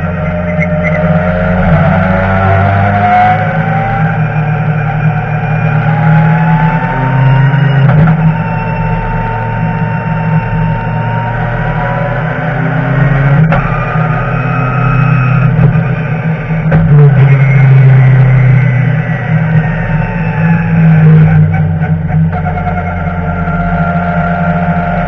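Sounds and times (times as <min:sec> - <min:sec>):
race car engine running hard: 0:00.0 - 0:25.0.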